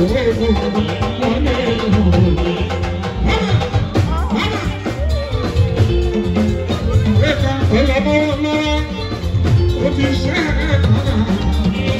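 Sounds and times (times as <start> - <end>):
bass guitar: 0.0 - 11.9
drums heavy steady beat: 0.0 - 11.9
electric guitar: 0.0 - 11.9.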